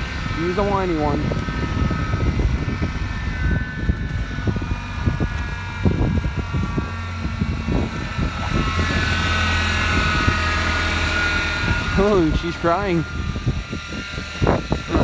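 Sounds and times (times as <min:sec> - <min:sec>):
high steady whine: 0:00.0 - 0:15.0
truck engine idling: 0:00.0 - 0:15.0.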